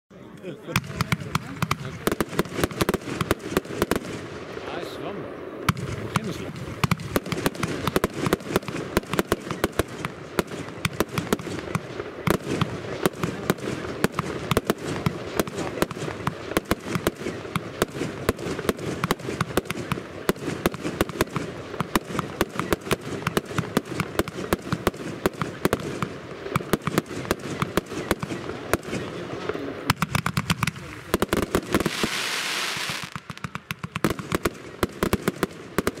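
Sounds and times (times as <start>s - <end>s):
fireworks bangs: 0.6s - 36.0s.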